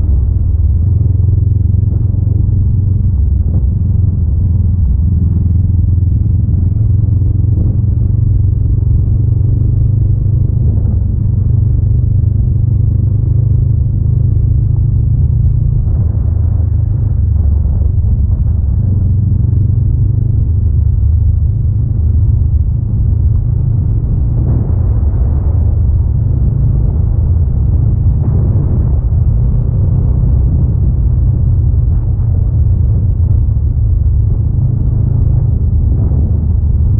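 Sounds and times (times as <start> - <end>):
motorcycle engine rumble: 0.0 - 36.9.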